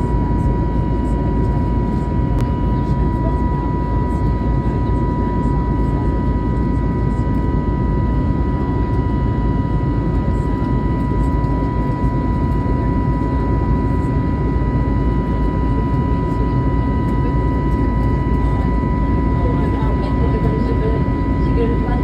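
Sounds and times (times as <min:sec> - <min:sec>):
airliner cabin drone: 0:00.0 - 0:22.0
steady high whine: 0:00.0 - 0:22.0.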